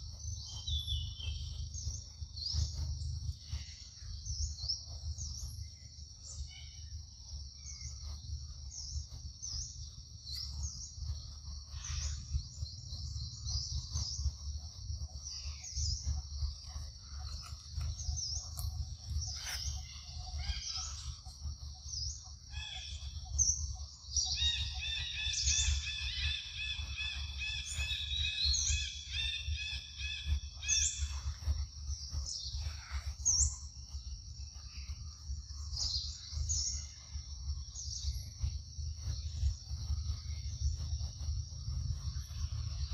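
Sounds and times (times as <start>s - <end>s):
constant low rumble: 0.0s - 42.9s
high-pitched insect drone: 0.0s - 42.9s.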